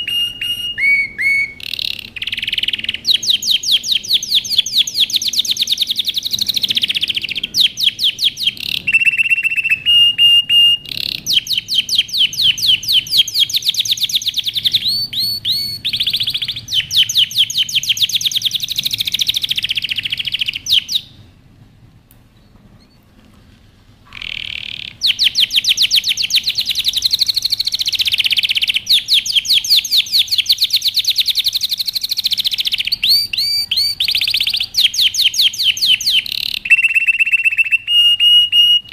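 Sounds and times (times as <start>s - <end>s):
canary singing trills: 0.0s - 21.2s, 24.0s - 38.9s.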